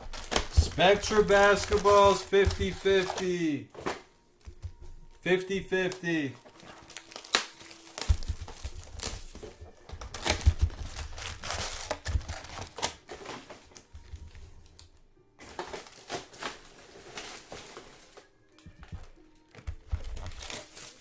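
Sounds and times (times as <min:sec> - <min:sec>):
plastic wrapping crinkling and tearing: 0:00.0 - 0:04.1, 0:05.7 - 0:21.0.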